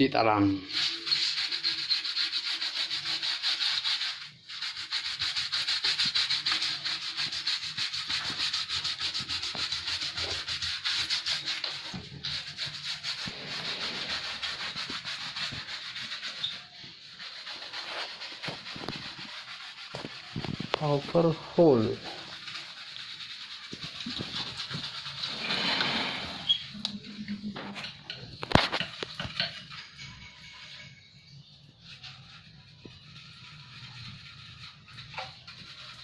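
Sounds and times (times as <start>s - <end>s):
hissing scrubbing of washing: 0.3s - 27.2s, 27.8s - 36.0s.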